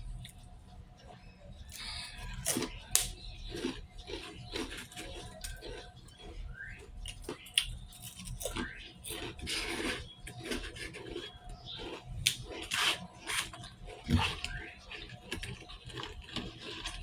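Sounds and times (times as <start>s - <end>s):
chewing with wet smacks: 0.0s - 17.0s.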